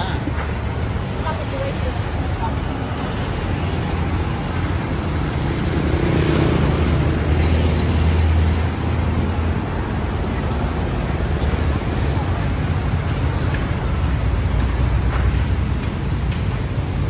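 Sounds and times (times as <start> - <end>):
motorbikes passing: 0.0 - 14.5
cars passing: 0.0 - 17.0.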